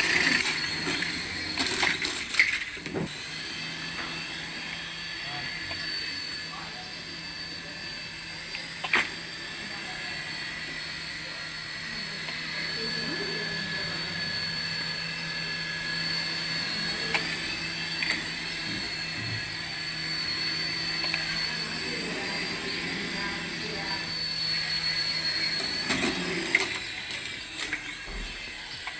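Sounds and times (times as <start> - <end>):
toy aircraft motor whining: 0.0 - 28.9.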